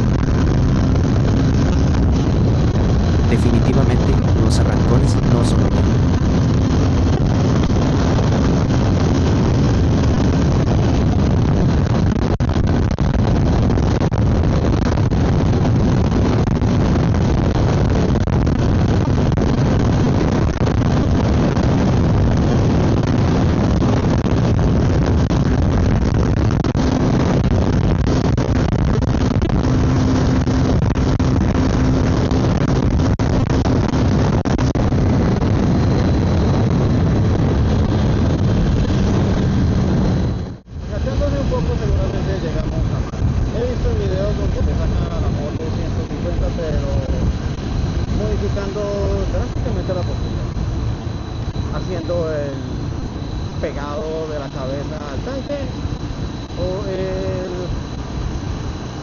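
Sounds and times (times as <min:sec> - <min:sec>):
motorcycle engine at high speed: 0:00.0 - 0:59.0
wind rushing over microphone: 0:00.0 - 0:59.0.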